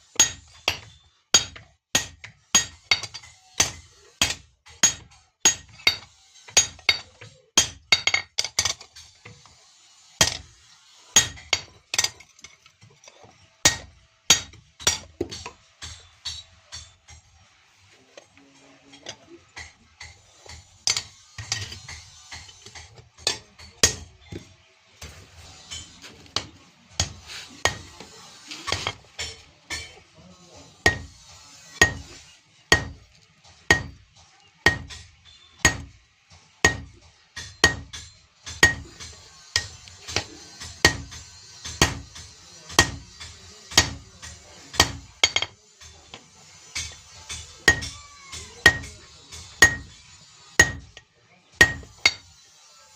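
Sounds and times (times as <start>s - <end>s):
hammer striking iron on anvil: 0.2s - 8.8s, 10.2s - 10.5s, 11.2s - 12.2s, 13.6s - 17.3s, 19.6s - 24.5s, 25.7s - 28.0s, 28.7s - 30.0s, 30.8s - 33.0s, 33.7s - 36.0s, 36.6s - 52.4s.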